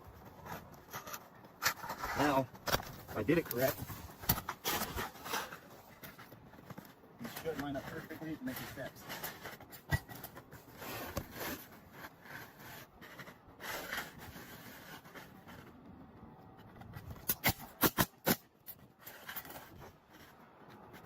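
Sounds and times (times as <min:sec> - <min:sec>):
shingles scraping and rustling: 0:00.0 - 0:15.9, 0:16.6 - 0:21.0.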